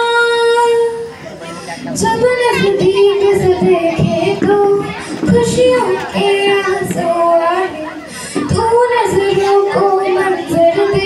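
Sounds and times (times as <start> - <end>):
person singing over loudspeaker: 1.8 - 11.0.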